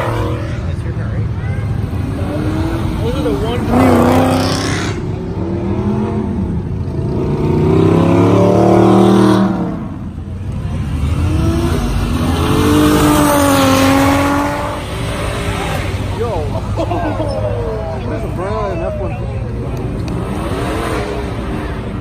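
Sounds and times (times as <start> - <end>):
car engines revving accelerating: 0.0 - 22.0.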